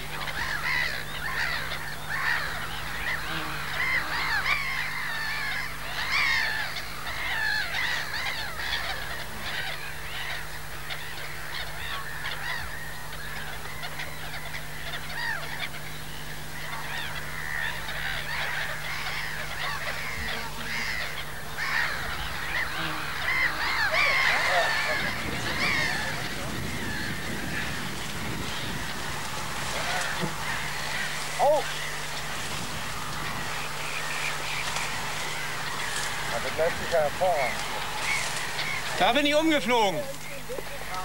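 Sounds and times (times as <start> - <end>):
gulls calling: 0.0 - 41.0.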